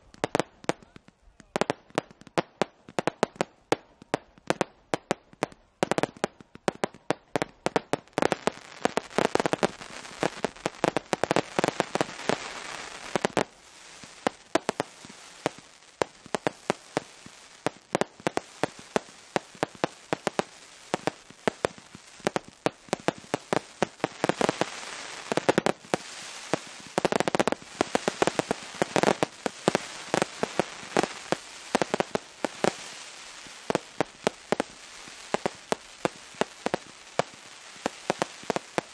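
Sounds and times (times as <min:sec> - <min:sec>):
firework crackle: 0:00.0 - 0:38.9
firework pops and bangs: 0:00.0 - 0:38.9.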